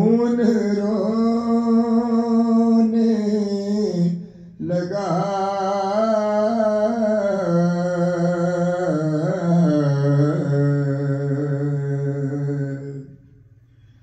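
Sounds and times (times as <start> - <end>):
man singing elegy: 0.0 - 13.1.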